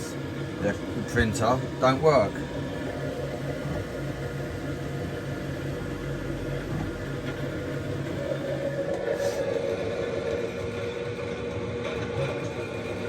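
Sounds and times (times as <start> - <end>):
printer mechanical hum: 0.0 - 13.0.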